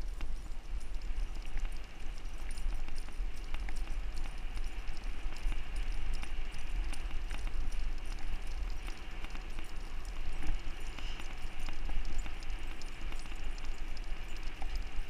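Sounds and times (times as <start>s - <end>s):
wheels rolling on asphalt: 0.0s - 15.0s.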